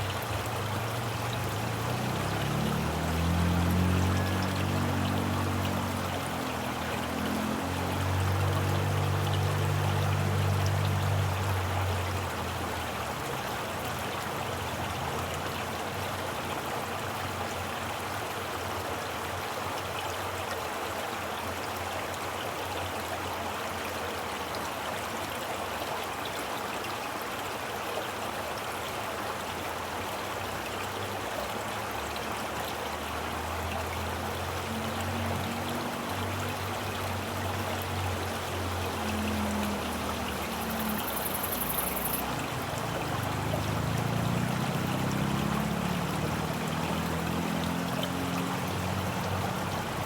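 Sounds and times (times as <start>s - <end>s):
stream flowing: 0.0s - 50.0s.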